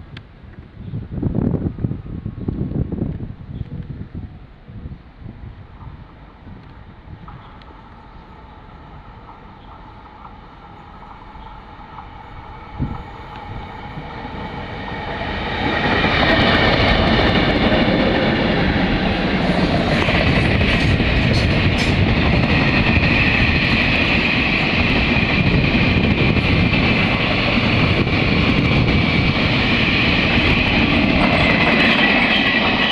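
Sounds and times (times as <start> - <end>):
freight train passing: 0.0 - 32.9.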